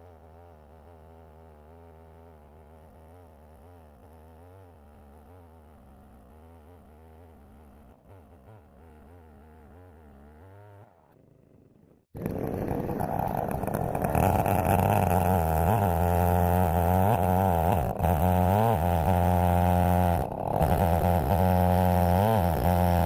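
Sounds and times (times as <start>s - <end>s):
chainsaw cutting log: 0.0s - 23.0s.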